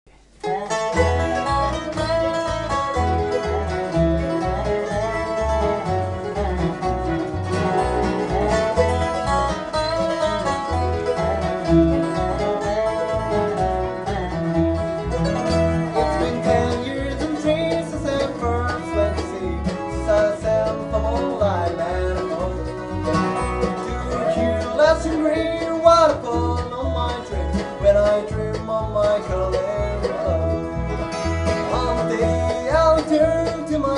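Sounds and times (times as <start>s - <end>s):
acoustic bluegrass band: 0.1s - 33.9s
bass notes: 0.1s - 33.9s
picked melody lines: 0.2s - 33.9s.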